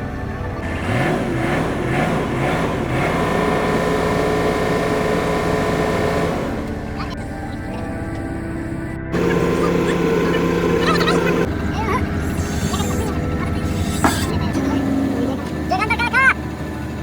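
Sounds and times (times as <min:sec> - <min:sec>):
heavy machine engine revving: 0:00.0 - 0:17.0.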